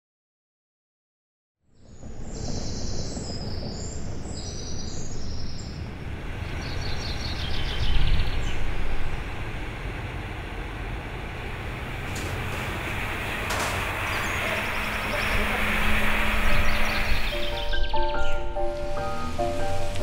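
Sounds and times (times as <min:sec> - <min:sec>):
birds chirping: 0:01.9 - 0:20.0
distant traffic rumble: 0:01.9 - 0:20.0.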